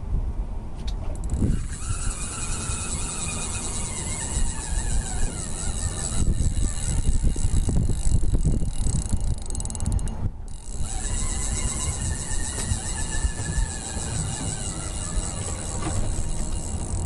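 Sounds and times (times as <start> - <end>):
fishing reel clicking: 1.2 - 17.0.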